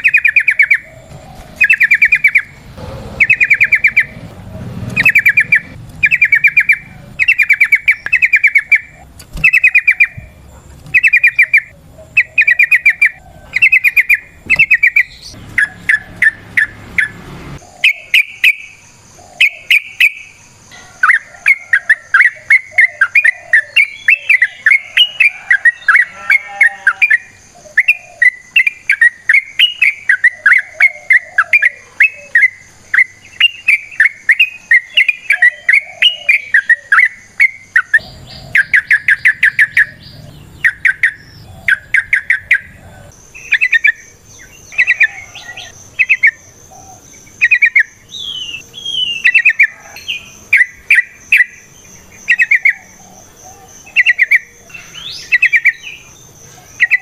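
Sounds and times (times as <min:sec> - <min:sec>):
bird singing warbling chirps: 0:00.0 - 0:57.0.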